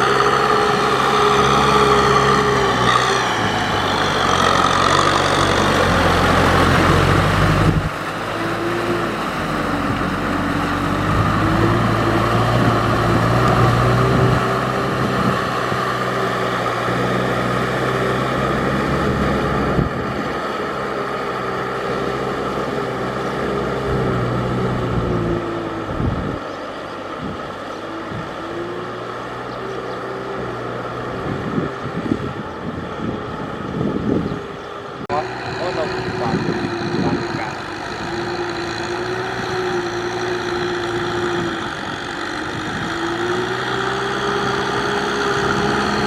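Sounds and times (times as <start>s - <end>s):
tractor engine running under load: 0.0s - 46.0s.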